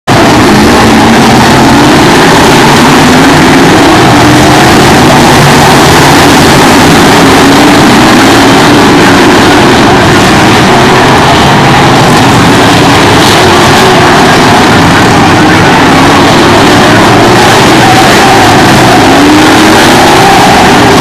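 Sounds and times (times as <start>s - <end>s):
race car engines passing: 0.1s - 21.0s.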